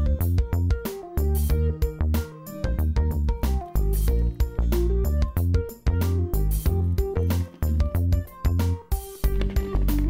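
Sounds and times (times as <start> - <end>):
keyboard and synthesizer music: 0.0 - 10.0
regular beat: 0.4 - 10.0.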